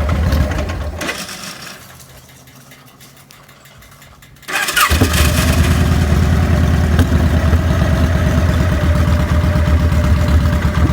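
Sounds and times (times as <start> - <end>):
motorcycle engine starting and idling: 0.0 - 10.9.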